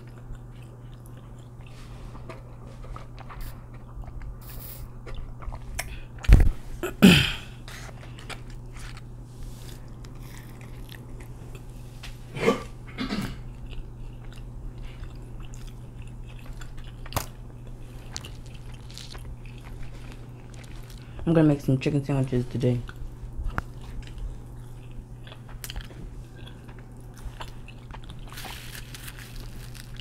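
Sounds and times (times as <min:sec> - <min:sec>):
wet chewing: 0:00.0 - 0:06.4, 0:07.7 - 0:11.8, 0:13.5 - 0:21.2, 0:22.8 - 0:30.0
steady low hum: 0:00.0 - 0:30.0.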